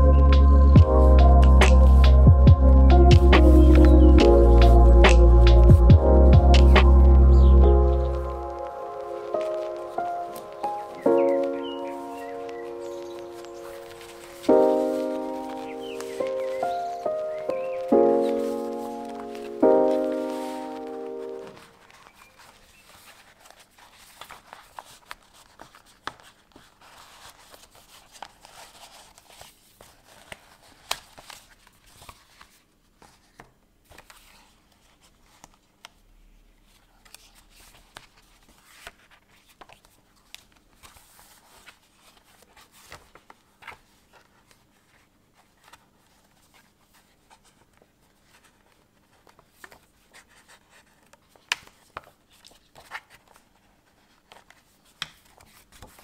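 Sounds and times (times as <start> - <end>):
paper pages turning and rustling: 1.1 - 2.2, 3.0 - 36.0, 36.6 - 56.0.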